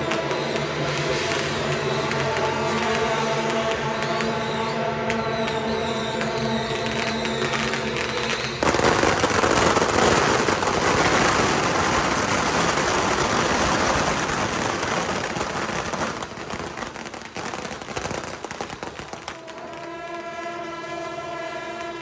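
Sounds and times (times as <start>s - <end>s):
firecrackers crackling: 0.0s - 22.0s.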